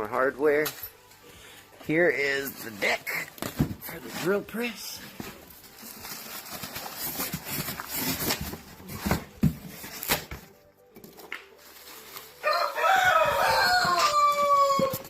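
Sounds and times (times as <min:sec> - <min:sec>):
packaging rustling and scraping: 0:02.2 - 0:15.0.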